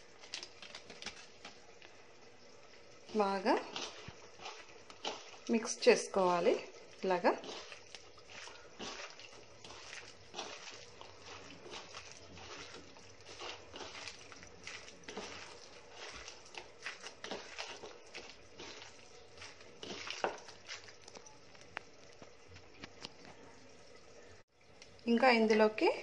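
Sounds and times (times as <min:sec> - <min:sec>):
wet sticky mixing of raw chicken: 0:02.6 - 0:23.5.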